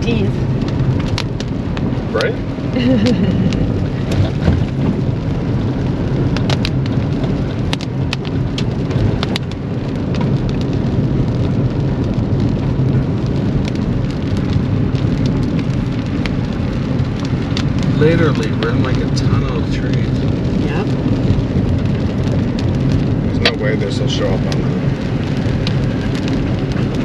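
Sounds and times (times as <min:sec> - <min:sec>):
rain ticking on vehicle: 0:00.0 - 0:27.0
vehicle engine and tyres droning: 0:00.0 - 0:27.0.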